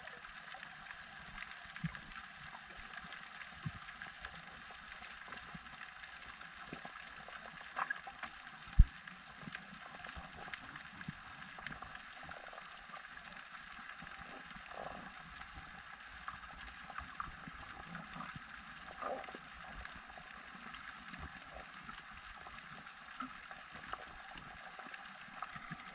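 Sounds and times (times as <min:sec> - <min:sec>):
small clicks and crackles: 0:00.0 - 0:25.9.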